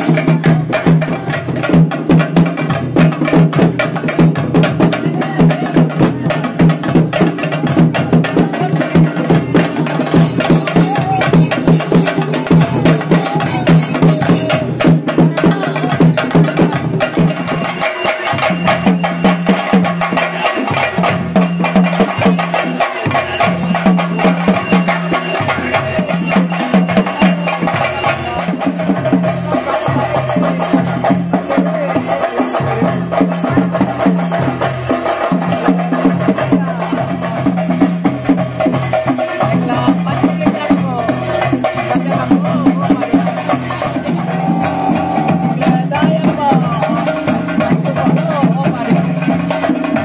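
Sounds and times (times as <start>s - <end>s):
rapid drum strokes: 0.0s - 50.0s.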